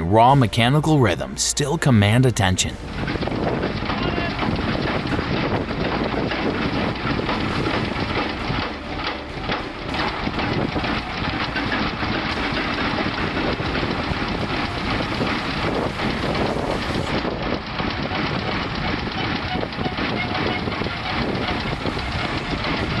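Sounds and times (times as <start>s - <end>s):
diesel engine running: 2.7s - 23.0s.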